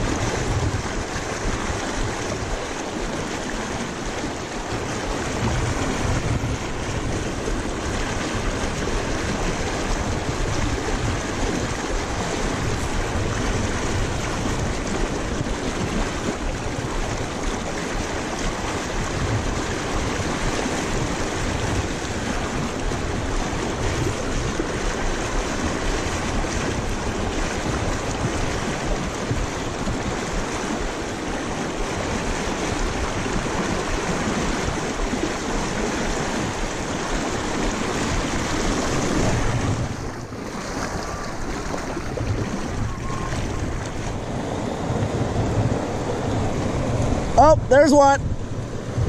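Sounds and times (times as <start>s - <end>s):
river rushing over rocks: 0.0s - 49.0s.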